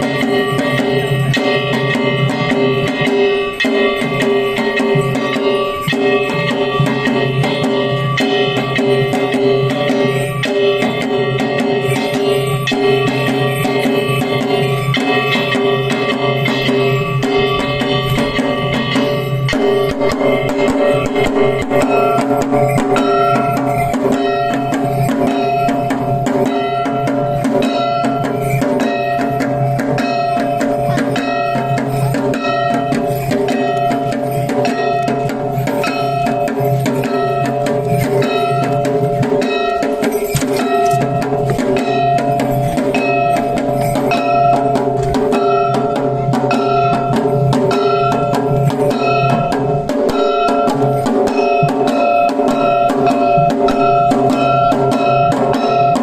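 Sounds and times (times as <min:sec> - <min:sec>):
continuous ringing tones: 0:00.0 - 0:56.0
fast steady drumming: 0:00.0 - 0:56.0.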